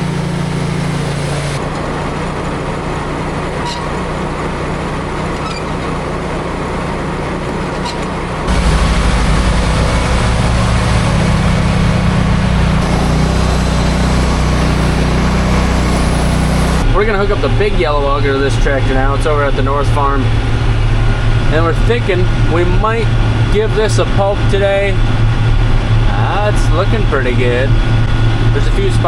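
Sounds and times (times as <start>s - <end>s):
heavy farm vehicle engine: 0.0s - 29.0s.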